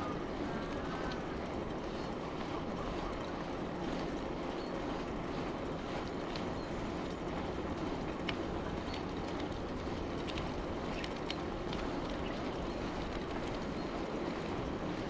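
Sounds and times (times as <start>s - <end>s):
bicycle tyres rumbling on road: 0.0s - 15.0s
bike clicks and rattles: 0.0s - 15.0s.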